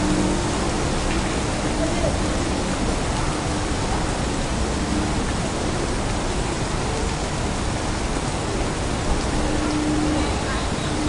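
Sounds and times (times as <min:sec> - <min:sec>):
rainy city street hiss: 0:00.0 - 0:11.0.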